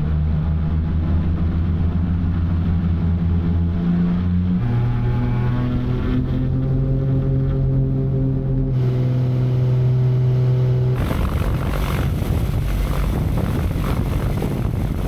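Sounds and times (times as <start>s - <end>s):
light airplane engine droning: 0.0s - 15.0s.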